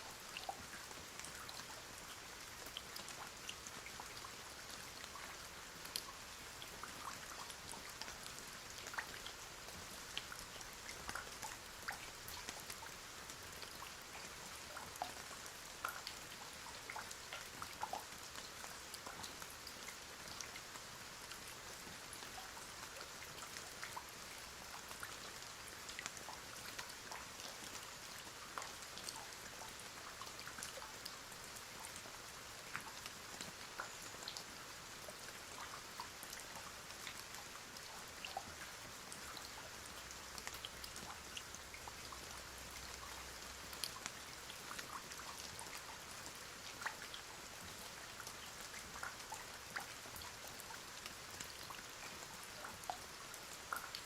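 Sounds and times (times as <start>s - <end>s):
raindrops ticking: 0.2s - 53.1s.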